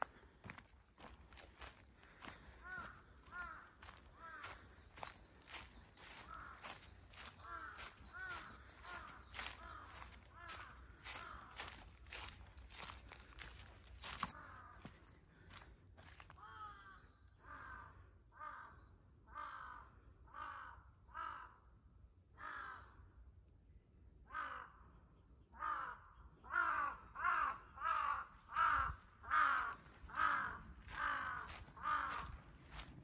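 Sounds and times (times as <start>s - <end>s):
crow cawing: 0.0s - 21.8s, 22.4s - 23.2s, 24.3s - 25.0s, 25.6s - 33.0s.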